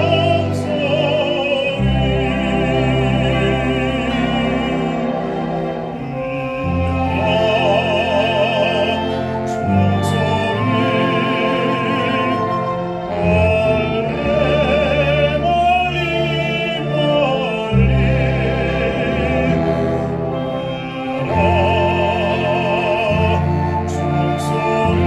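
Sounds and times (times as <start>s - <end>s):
instrumental accompaniment: 0.0s - 25.0s
man singing operatically: 0.0s - 25.0s.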